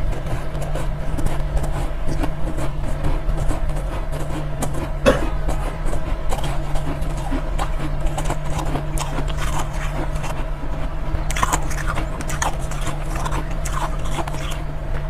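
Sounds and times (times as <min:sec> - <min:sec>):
ice crunching being chewed: 0:00.0 - 0:15.0.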